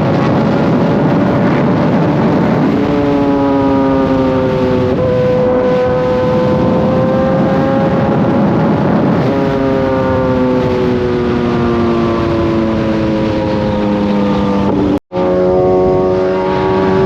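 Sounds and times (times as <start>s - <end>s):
heavy wind noise: 0.0s - 17.0s
motorcycle engine cruising: 0.0s - 17.0s.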